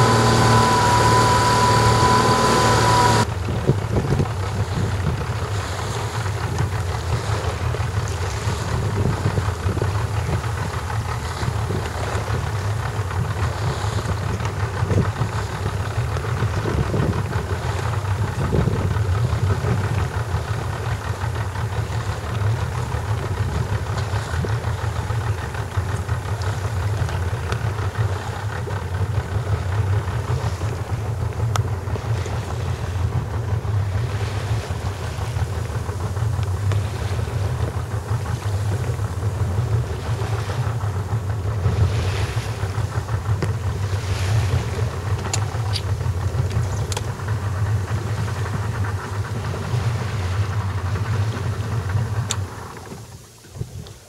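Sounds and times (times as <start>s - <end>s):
boat engine running: 0.0s - 54.0s
water rushing past: 0.0s - 54.0s
water splashes: 0.0s - 54.0s.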